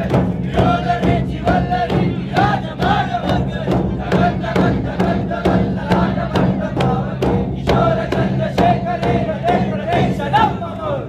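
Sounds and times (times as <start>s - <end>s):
drums beating steady rhythm: 0.0s - 11.0s.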